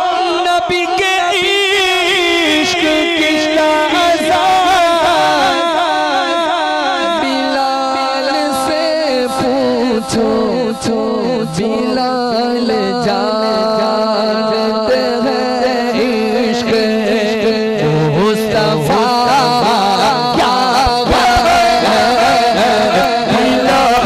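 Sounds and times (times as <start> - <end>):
man singing devotional song: 0.0 - 24.0.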